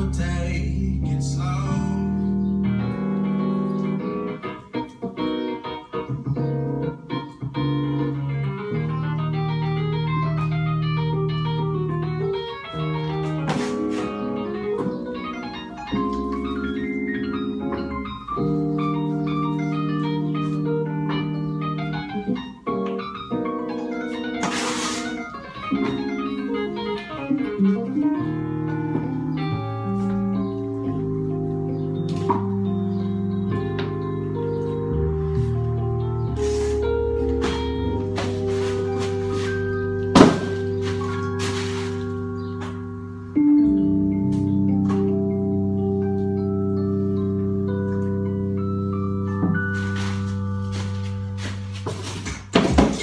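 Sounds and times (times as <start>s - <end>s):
organ-like keyboard playing: 0.0s - 53.0s.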